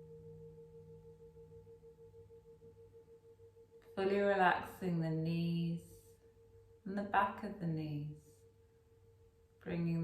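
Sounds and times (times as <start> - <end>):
singing bowl ringing: 0.0 - 10.0.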